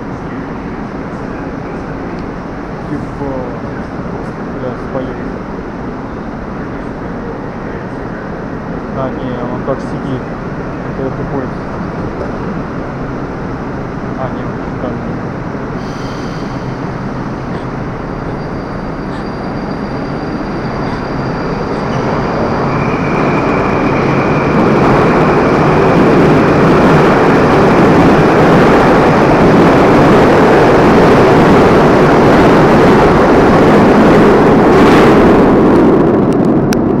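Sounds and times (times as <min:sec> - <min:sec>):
metro train passing: 0:00.0 - 0:37.0.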